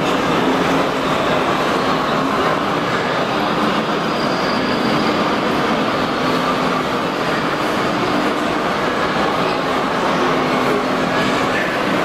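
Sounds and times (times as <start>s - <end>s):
hall background noise: 0.0s - 12.0s
model trains rolling: 0.0s - 12.0s.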